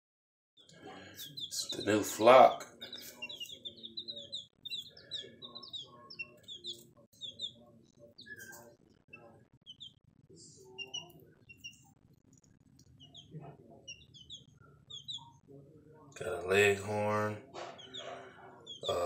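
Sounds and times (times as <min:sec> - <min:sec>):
baby chicks peeping: 0:00.6 - 0:19.0.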